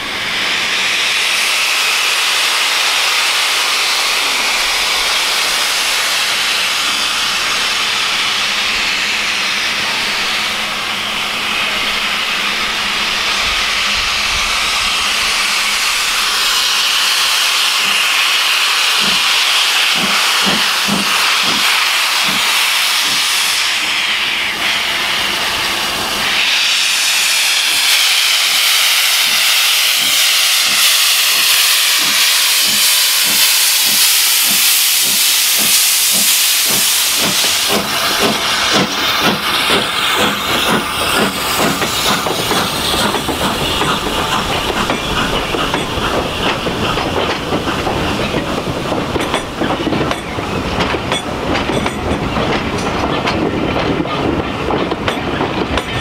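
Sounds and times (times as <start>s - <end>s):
steam locomotive exhaust beats: 0.0s - 56.0s
steam locomotive drain cocks hissing: 0.1s - 56.0s.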